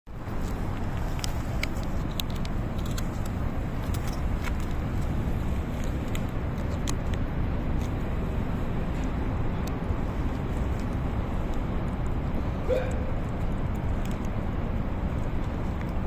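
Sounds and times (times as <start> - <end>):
low outdoor rumble: 0.1 - 16.0.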